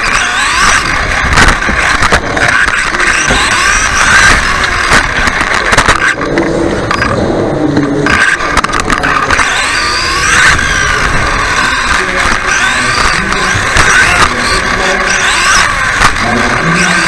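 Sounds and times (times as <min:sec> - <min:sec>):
rc car motors whining: 0:00.0 - 0:17.0.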